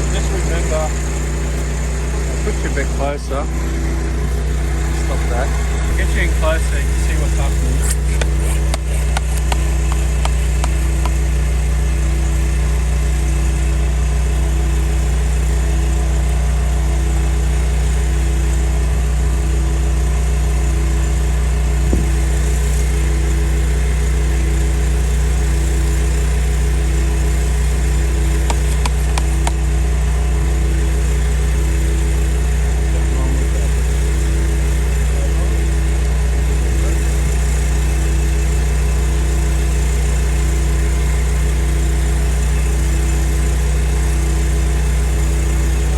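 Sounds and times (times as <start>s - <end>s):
pressure washer engine running: 0.0s - 45.9s.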